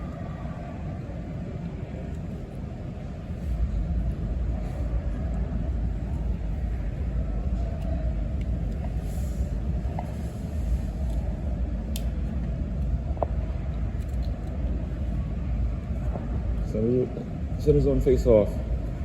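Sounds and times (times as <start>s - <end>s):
ice rink background rumble: 0.0s - 19.0s.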